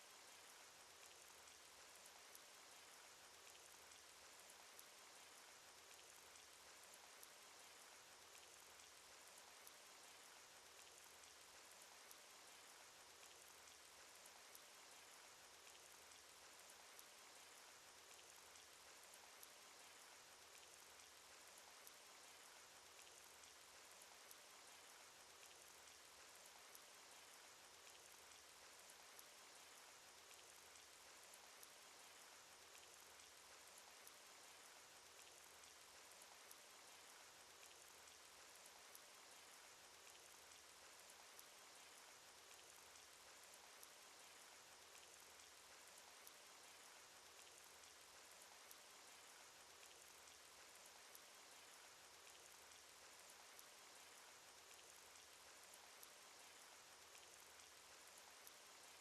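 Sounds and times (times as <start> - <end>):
sharp raindrop ticks: 0.1 - 59.0.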